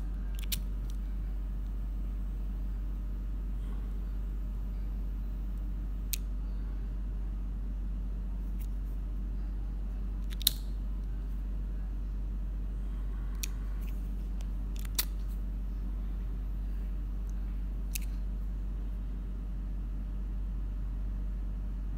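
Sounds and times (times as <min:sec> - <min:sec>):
low background hum: 0:00.0 - 0:21.9.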